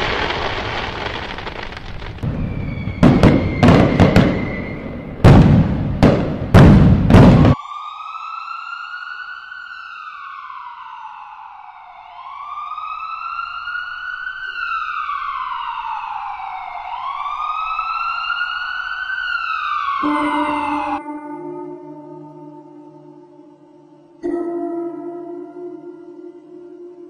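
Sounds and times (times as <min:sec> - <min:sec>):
emergency vehicle siren wailing: 0:01.0 - 0:05.2, 0:07.5 - 0:27.0.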